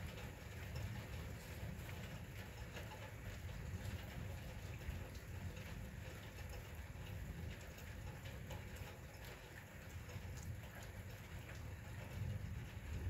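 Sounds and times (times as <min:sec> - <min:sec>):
low steady rumble: 0:00.0 - 0:13.0
rain falling: 0:00.0 - 0:13.0
raindrops tapping: 0:00.0 - 0:13.0.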